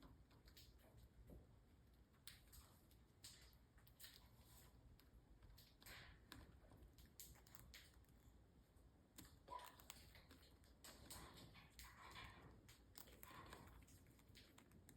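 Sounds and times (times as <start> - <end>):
faint small clicks and taps: 0.0 - 14.9.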